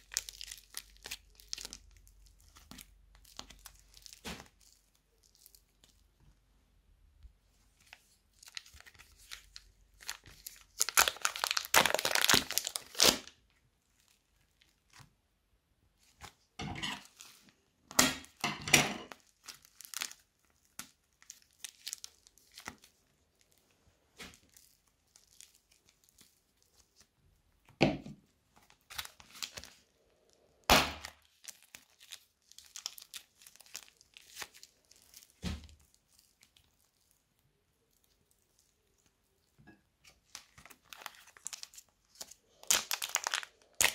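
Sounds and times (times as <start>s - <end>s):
plastic wrapper crinkling and tearing: 0.0s - 6.3s, 7.7s - 15.1s, 16.0s - 27.7s, 28.4s - 43.9s
clay crackling and squishing: 0.0s - 18.4s, 19.0s - 43.9s.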